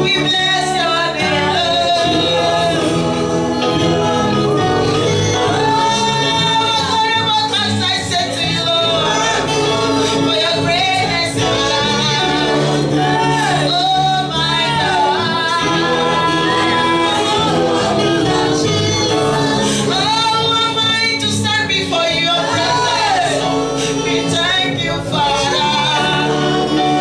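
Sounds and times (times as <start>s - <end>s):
instrumental accompaniment: 0.0s - 27.0s
people singing: 0.0s - 27.0s.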